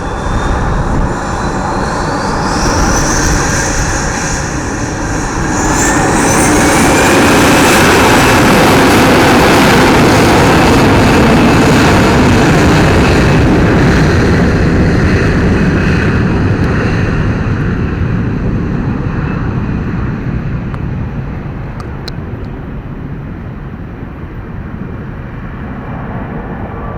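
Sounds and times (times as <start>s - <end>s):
airliner engines roaring past: 0.0s - 26.9s.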